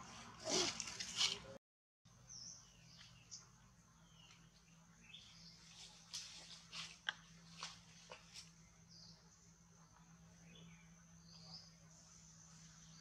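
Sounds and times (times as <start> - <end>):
birds chirping: 2.1 - 13.0.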